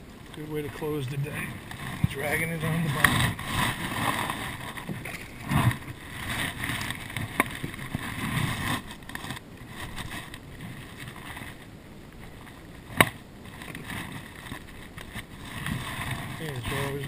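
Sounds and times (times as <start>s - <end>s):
wind and water noise: 0.0s - 17.0s.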